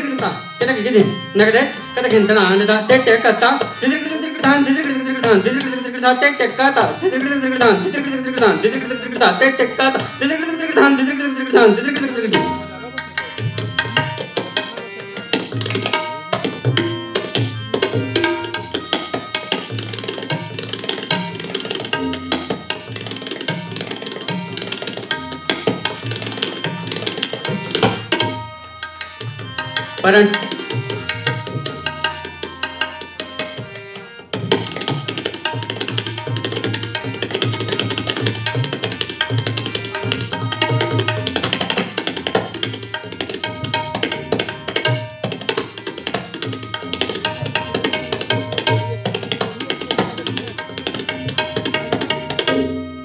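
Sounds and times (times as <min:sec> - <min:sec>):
harmonium melody: 0:00.0 - 0:53.0
tabla drumming: 0:00.0 - 0:53.0.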